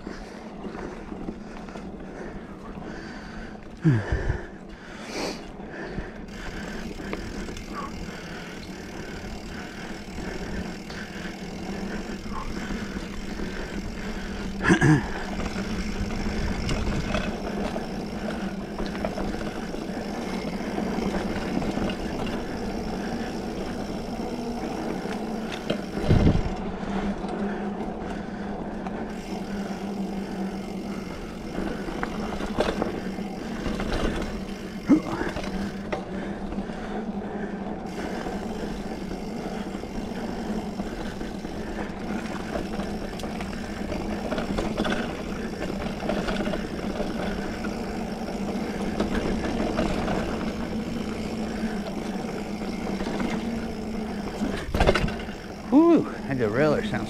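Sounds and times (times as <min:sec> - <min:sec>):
bike tyre and drivetrain noise: 0:00.0 - 0:57.0.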